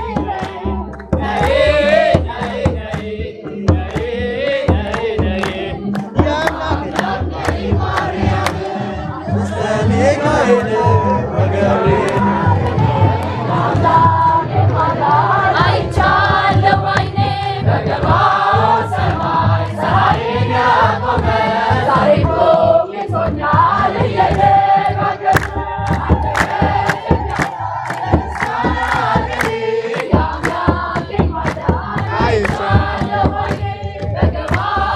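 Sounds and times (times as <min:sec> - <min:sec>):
choir singing a hymn: 0:00.0 - 0:34.9
sharp percussive beats: 0:00.0 - 0:34.9.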